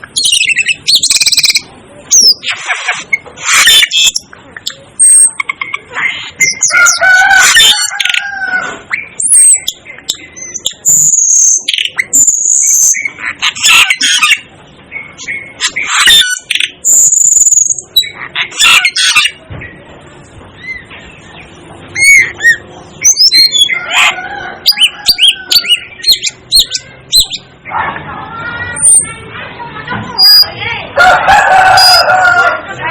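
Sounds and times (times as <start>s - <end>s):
starling calling: 0.0s - 19.4s, 20.6s - 29.2s.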